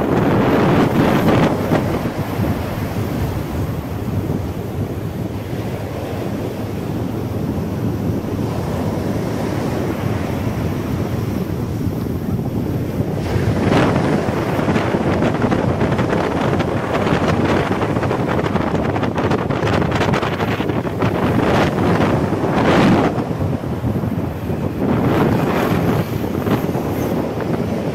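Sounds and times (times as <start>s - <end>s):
wind rushing over microphone: 0.0s - 27.9s.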